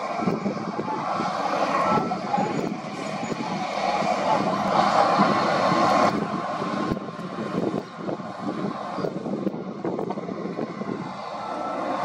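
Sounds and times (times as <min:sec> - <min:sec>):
bulldozer diesel engine: 0:00.0 - 0:12.0.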